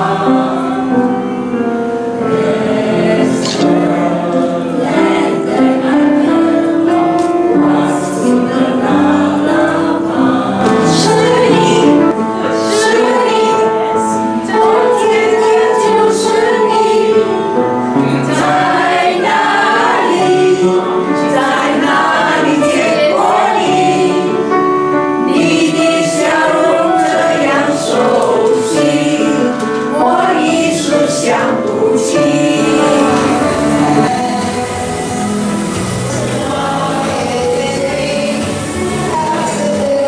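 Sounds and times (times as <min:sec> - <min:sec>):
choir singing: 0:00.0 - 0:40.0.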